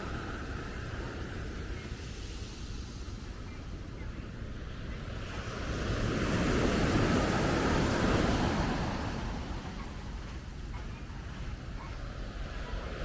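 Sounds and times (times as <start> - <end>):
sea waves crashing on beach: 0.0 - 13.0.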